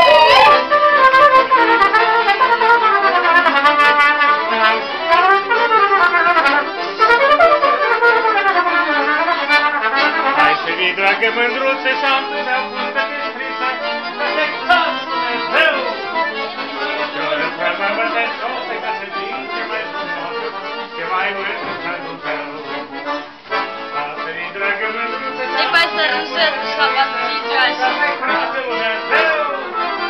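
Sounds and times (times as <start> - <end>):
accordion folk dance tune: 0.0 - 30.0.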